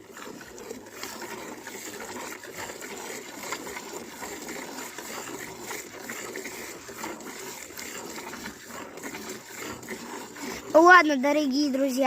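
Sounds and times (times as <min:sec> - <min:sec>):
milk squirting: 0:00.0 - 0:12.0.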